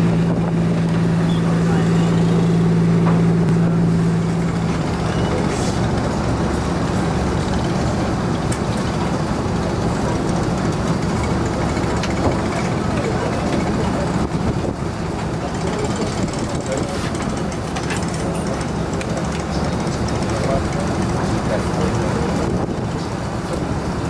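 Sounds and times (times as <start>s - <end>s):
humming engine tone: 0.0s - 24.0s
motorboat engine running: 0.0s - 24.0s
water and wind noise: 0.0s - 24.0s.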